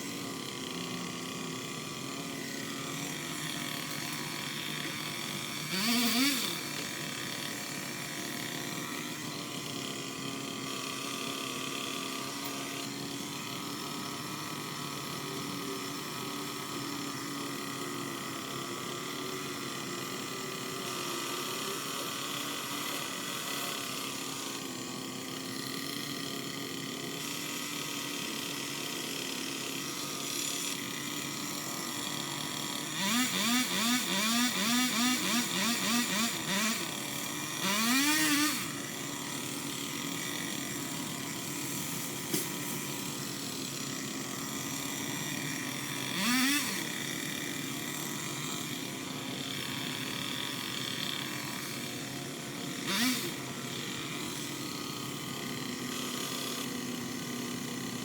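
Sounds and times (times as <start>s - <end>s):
small motor humming: 0.0s - 58.0s.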